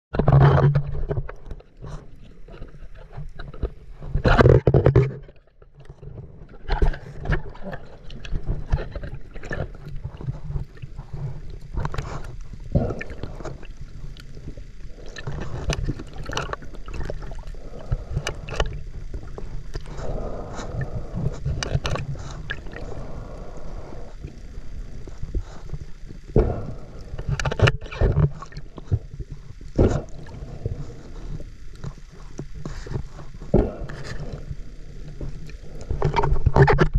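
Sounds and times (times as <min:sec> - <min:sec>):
water noise: 0:00.1 - 0:36.9
steady low drone: 0:06.2 - 0:36.6.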